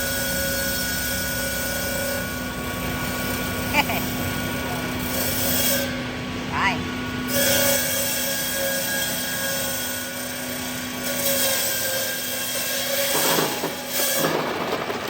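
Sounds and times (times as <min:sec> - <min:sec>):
ice cutting machine running: 0:00.0 - 0:15.0.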